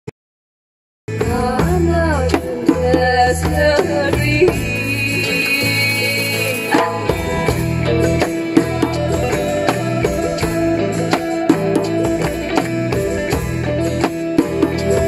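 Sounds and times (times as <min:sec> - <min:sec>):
djembe played by hand: 0:01.1 - 0:15.0
recorded desert blues music: 0:01.1 - 0:15.0.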